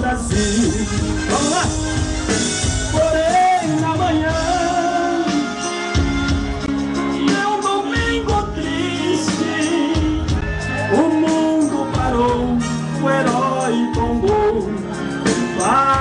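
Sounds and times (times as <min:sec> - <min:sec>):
man singing into a microphone: 0:00.0 - 0:05.8, 0:07.0 - 0:16.0
live band music: 0:00.0 - 0:16.0.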